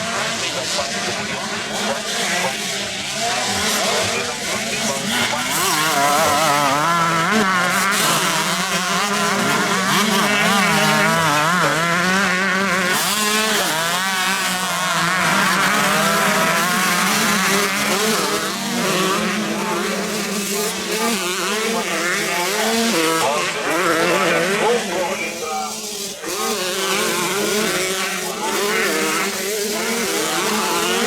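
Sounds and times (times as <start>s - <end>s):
motocross bikes revving: 0.0s - 31.0s.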